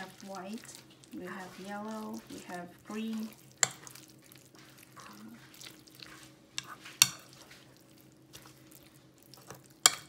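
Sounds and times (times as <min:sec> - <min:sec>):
batter squishing in bowl: 0:00.0 - 0:10.0.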